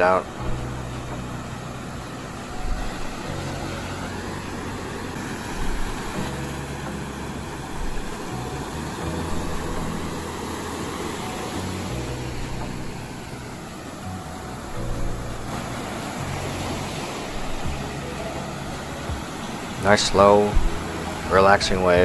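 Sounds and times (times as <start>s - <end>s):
faint background music: 0.0s - 22.0s
ocean surf breaking: 0.0s - 22.0s.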